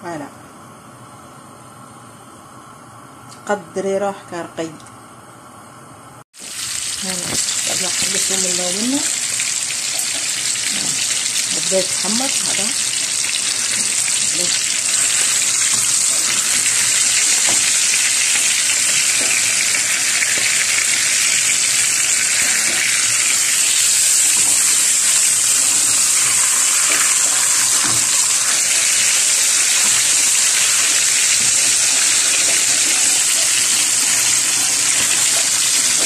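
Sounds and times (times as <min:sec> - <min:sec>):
meat sizzling in hot oil: 0:06.4 - 0:36.0.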